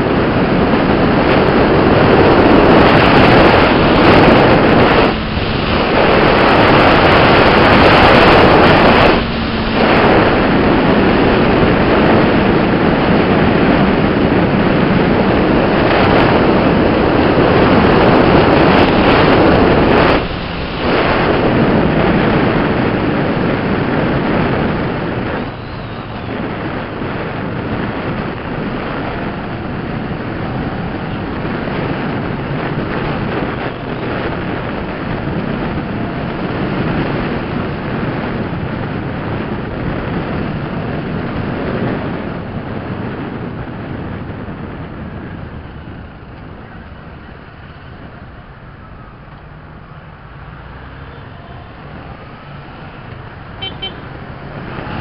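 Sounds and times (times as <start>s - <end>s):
heavy wind noise on microphone: 0.0s - 55.0s.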